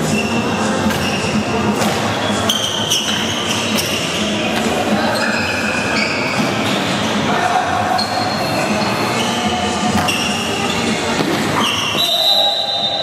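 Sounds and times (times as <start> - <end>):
sneakers squeaking on wood floor: 0.0 - 13.0.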